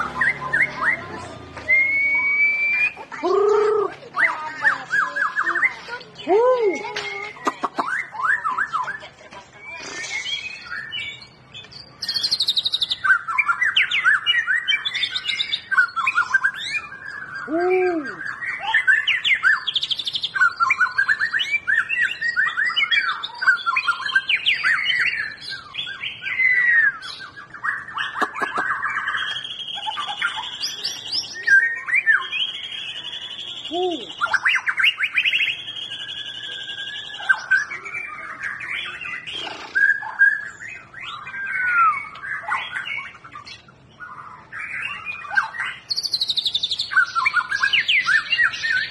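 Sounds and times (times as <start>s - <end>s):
bird singing whistled phrases: 0.0s - 6.3s, 7.8s - 9.0s, 9.6s - 48.9s.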